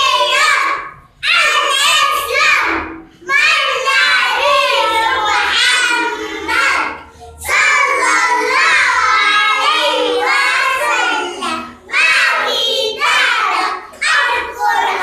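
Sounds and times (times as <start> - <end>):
child singing: 0.0 - 15.0.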